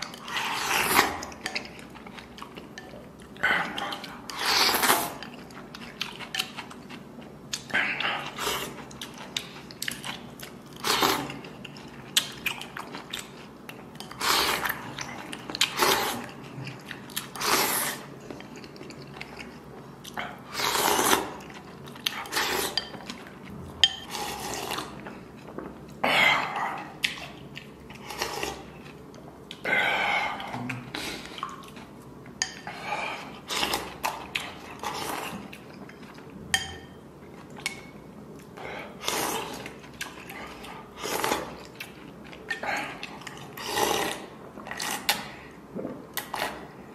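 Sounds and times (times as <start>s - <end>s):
chewing: 0.0s - 29.7s, 37.3s - 46.7s.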